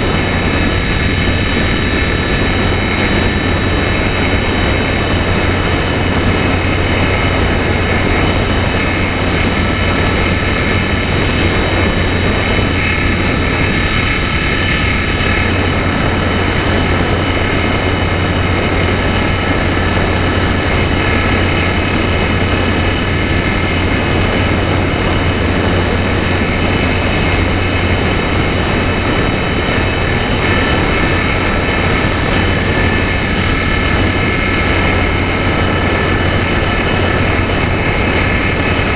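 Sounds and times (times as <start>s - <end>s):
electric motor high whine: 0.0s - 38.9s
wind noise: 0.0s - 38.9s.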